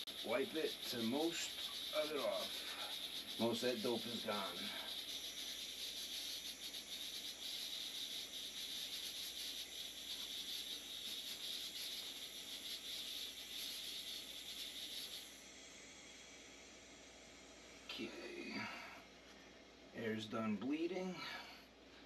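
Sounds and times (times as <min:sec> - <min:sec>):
air vent hissing and sputtering: 0:00.0 - 0:22.0.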